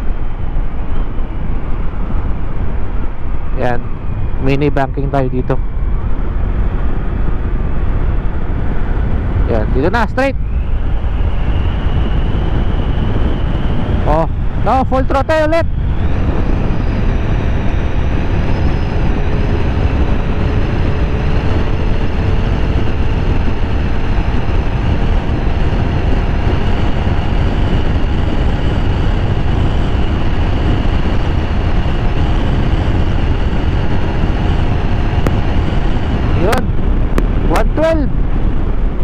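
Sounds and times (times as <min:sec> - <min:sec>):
scooter engine drone: 0:00.0 - 0:39.0
wind rush on microphone: 0:00.0 - 0:39.0.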